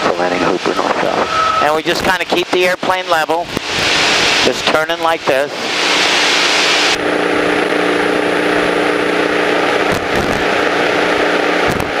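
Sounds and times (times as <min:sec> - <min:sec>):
propeller airplane engine drone: 0:00.0 - 0:12.0.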